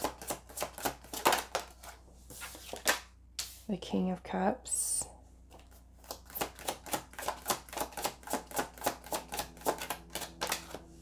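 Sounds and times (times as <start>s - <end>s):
cards being shuffled: 0.0s - 3.6s, 5.5s - 11.0s.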